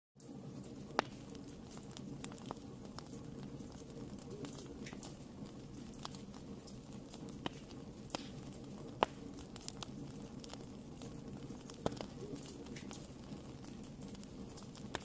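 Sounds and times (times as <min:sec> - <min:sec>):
fire crackles and pops: 0:00.2 - 0:15.0
fire flames rushing: 0:00.3 - 0:15.0.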